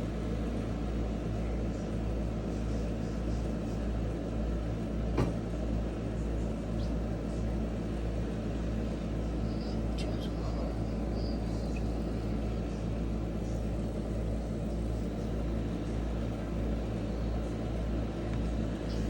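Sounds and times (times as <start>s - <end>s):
white noise with low rumble: 0.0s - 19.0s.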